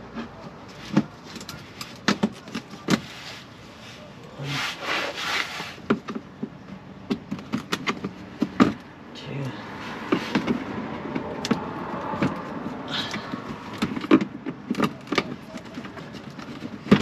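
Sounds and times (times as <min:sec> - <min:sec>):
metal scraping on plastic: 0:00.0 - 0:09.0, 0:09.6 - 0:17.0.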